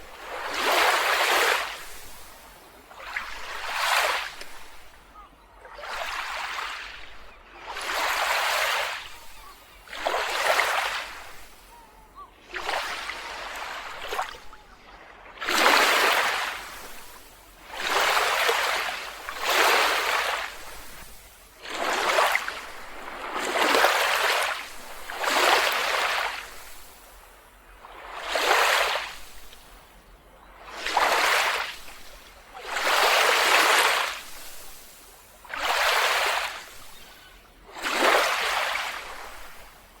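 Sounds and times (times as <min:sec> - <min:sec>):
small waves washing onto beach: 0:00.0 - 0:40.0.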